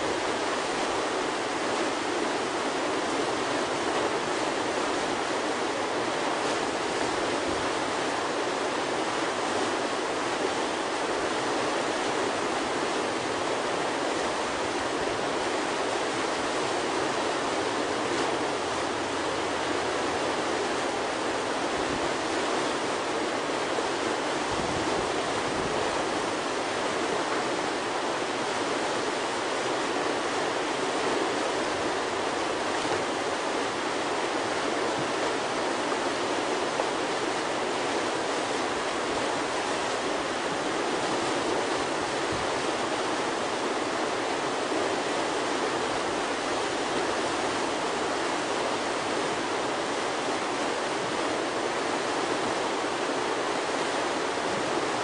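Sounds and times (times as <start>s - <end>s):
whitewater rushing: 0.0s - 55.0s.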